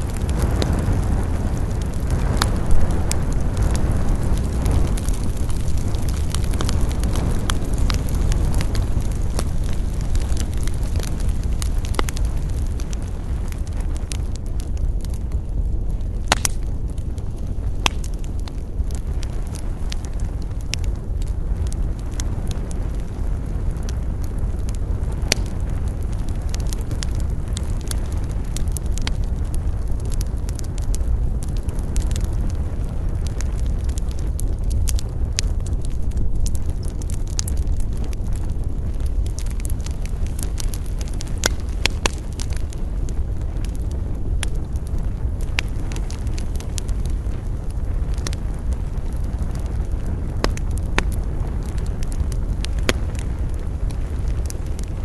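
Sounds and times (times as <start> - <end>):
campfire crackling and popping: 0.0 - 55.0
wind: 0.0 - 55.0.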